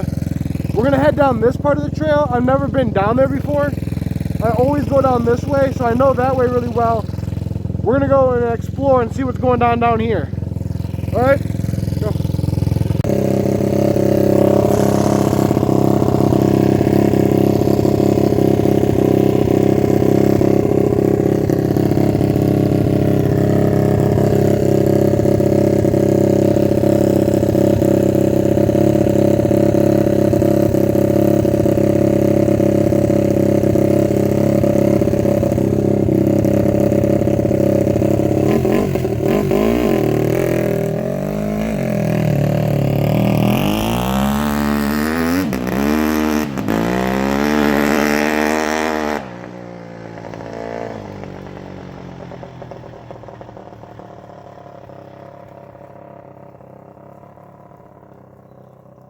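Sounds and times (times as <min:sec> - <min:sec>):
dirt bike engine revving: 0:00.0 - 0:51.5.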